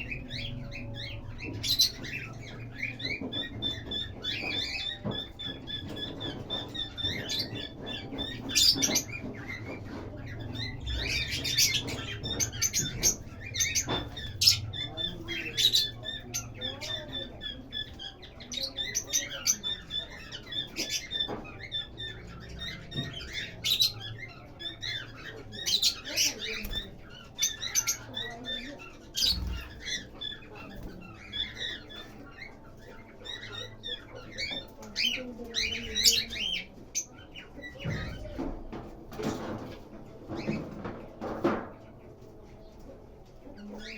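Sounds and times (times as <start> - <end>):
lovebirds chirping: 0.0 - 38.4.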